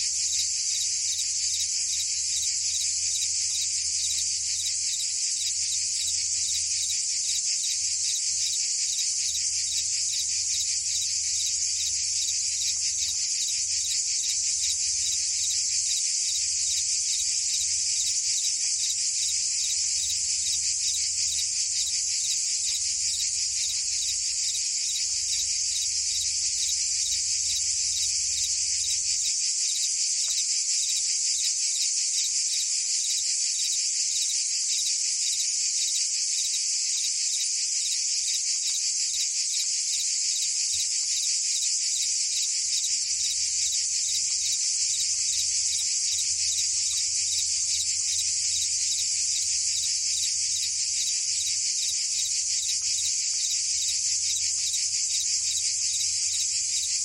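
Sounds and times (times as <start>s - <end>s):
cicadas and crickets chorus: 0.0s - 57.0s.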